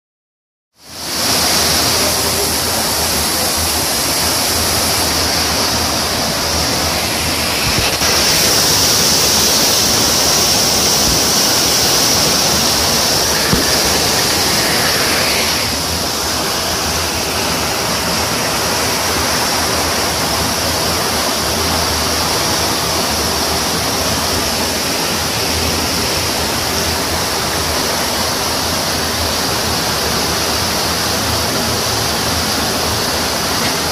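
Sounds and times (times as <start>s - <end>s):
floodwater rushing: 0.9s - 33.9s.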